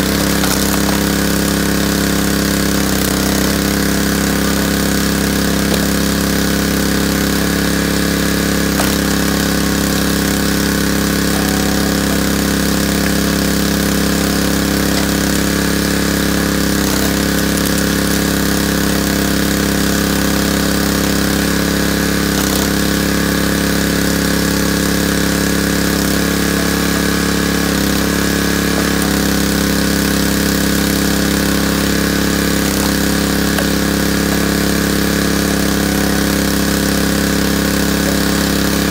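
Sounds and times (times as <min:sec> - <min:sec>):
log splitter gas engine running: 0:00.0 - 0:38.9.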